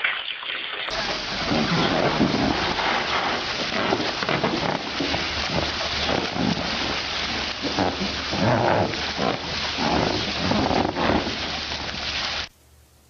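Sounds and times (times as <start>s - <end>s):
water rushing: 0.0s - 12.5s.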